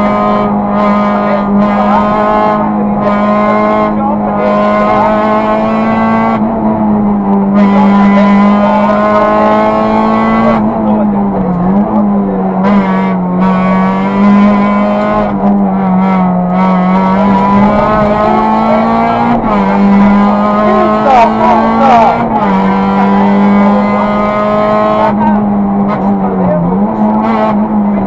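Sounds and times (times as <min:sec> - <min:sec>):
rally car engine at high revs: 0:00.0 - 0:28.0.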